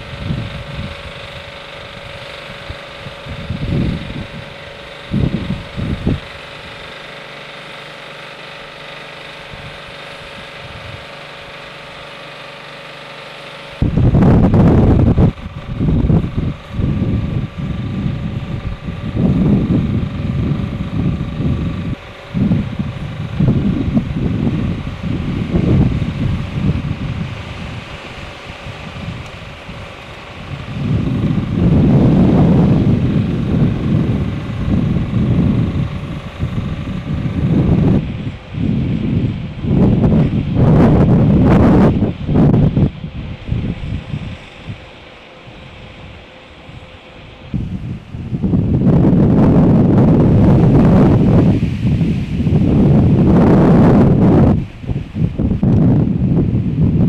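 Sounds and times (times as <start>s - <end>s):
vehicle engine idling: 0.0s - 57.0s
wind buffeting microphone: 0.0s - 57.0s.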